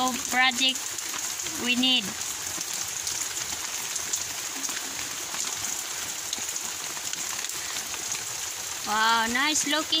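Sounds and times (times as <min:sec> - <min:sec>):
rain hissing: 0:00.0 - 0:10.0
raindrops ticking: 0:00.0 - 0:10.0.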